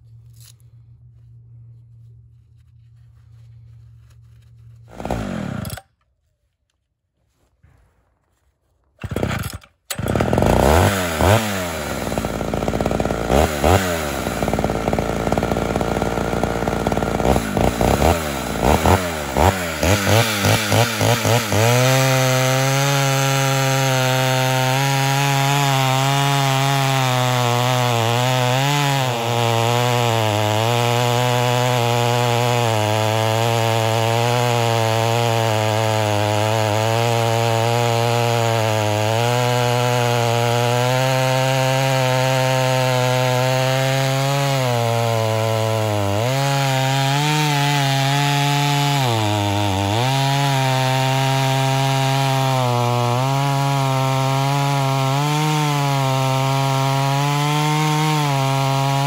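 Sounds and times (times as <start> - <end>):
chainsaw cutting log: 4.3 - 6.2, 8.9 - 59.0.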